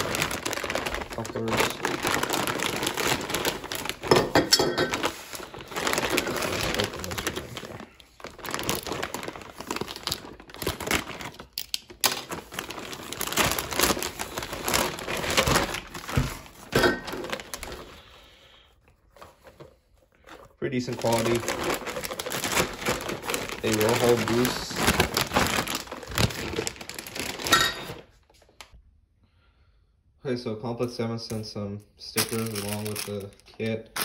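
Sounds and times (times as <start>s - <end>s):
packaging crinkling and rustling: 0.0s - 28.8s, 32.0s - 34.0s.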